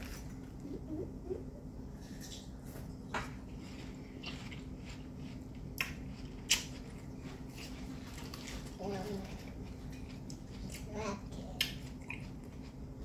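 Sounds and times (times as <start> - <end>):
chewing: 2.0 - 13.0.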